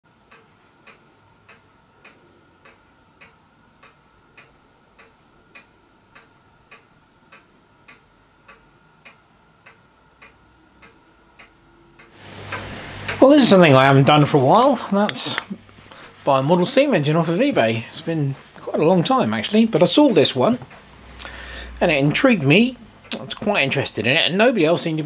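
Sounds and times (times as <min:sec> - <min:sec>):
faint mechanical ticking: 0:00.1 - 0:25.0
faint steady hum: 0:00.1 - 0:25.0.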